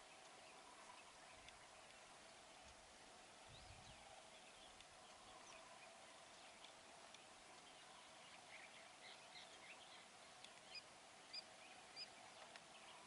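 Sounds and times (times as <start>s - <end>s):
birds chirping: 0.0s - 13.0s
faint steady hum: 0.0s - 13.0s.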